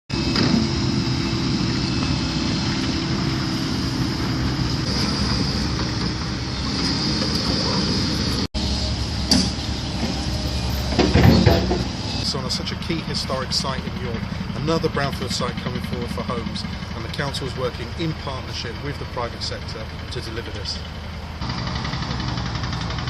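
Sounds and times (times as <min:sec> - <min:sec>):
low engine rumble: 0:00.1 - 0:23.0.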